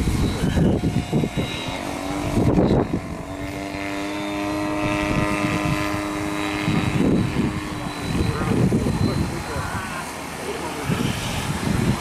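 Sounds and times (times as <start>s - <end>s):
model jet turbine whine: 0.0s - 12.0s
wind on microphone: 0.0s - 12.0s.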